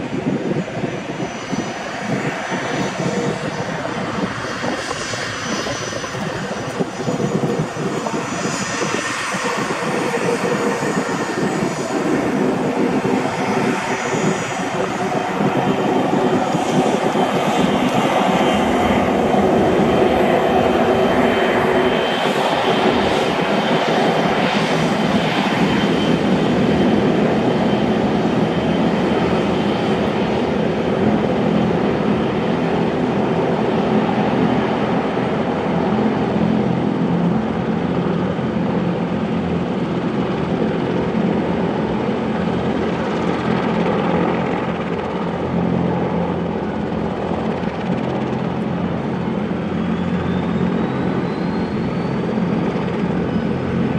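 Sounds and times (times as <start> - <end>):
helicopter idling: 0.0 - 53.9.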